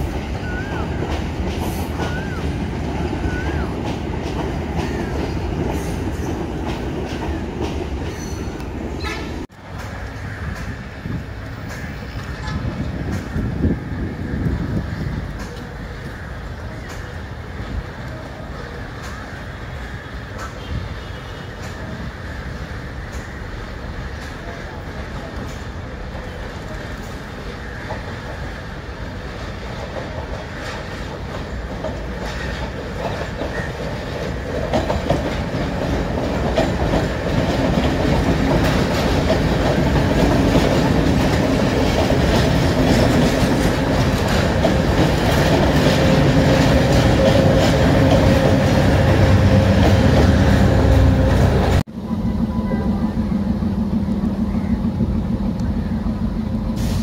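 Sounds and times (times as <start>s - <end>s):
train wheels clacking over rail joints: 0.0s - 13.8s, 14.4s - 51.8s
deep train engine hum: 0.0s - 57.0s.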